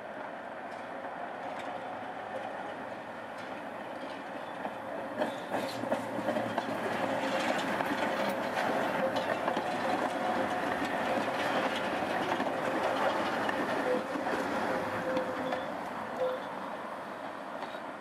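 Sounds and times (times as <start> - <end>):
tram rolling past: 0.0 - 18.0
wheels clicking over rail joints: 0.7 - 16.5.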